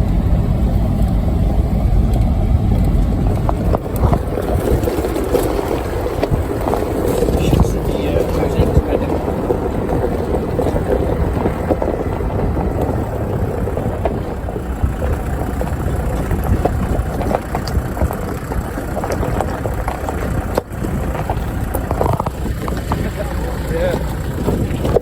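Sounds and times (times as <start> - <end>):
off-road vehicle engine and tyre rumble: 0.0 - 25.0.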